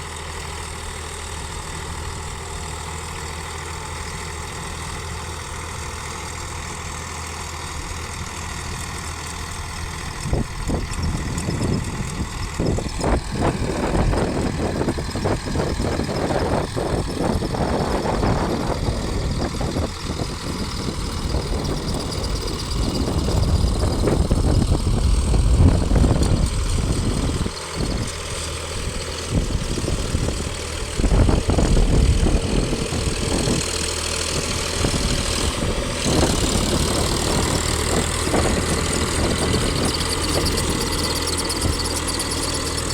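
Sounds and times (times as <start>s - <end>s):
tractor diesel engine running: 0.0s - 42.9s
rough uneven noise: 8.2s - 42.9s.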